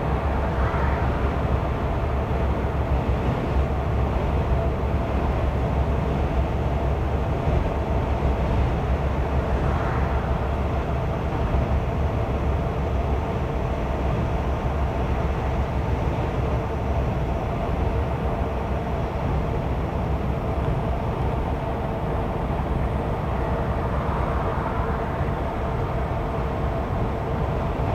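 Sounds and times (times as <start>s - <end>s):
faint steady drone: 0.0s - 27.9s
road rumble inside vehicle: 0.0s - 27.9s.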